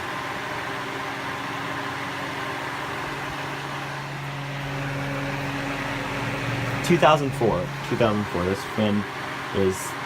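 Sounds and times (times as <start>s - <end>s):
desk fan running: 0.0s - 10.0s.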